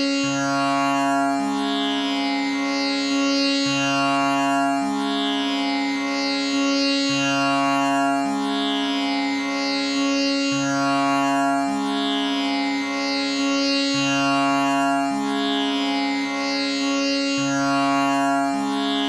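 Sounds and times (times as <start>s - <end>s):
tanpura drone: 0.0s - 19.0s.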